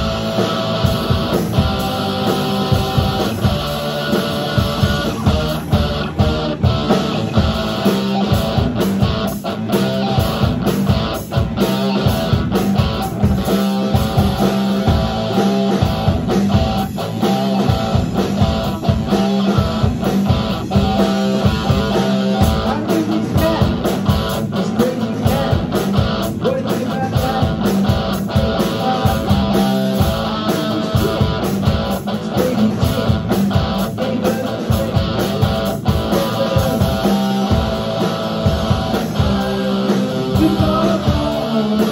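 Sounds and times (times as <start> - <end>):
distorted electric guitar: 0.0 - 41.9
drum kit beating: 0.0 - 41.9.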